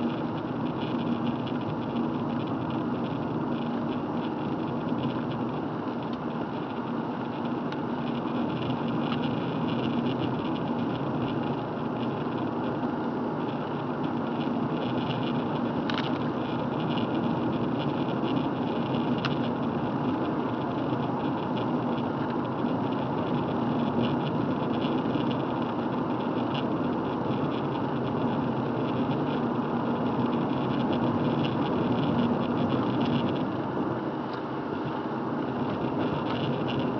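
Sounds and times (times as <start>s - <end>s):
car engine and tyre noise: 0.0s - 36.9s.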